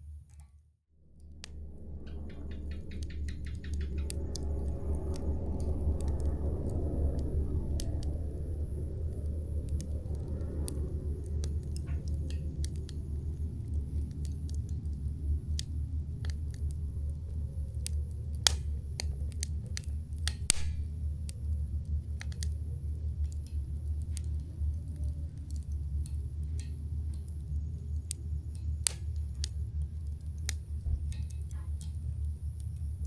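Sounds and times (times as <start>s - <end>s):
low fire rumble: 0.0s - 33.0s
campfire crackling: 1.2s - 33.0s.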